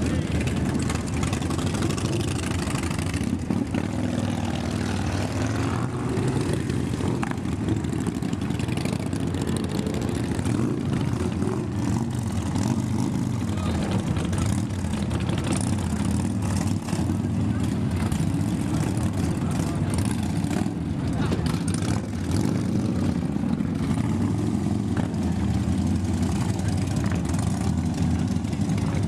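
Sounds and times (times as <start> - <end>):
motorcycle engines rumbling: 0.0 - 29.0.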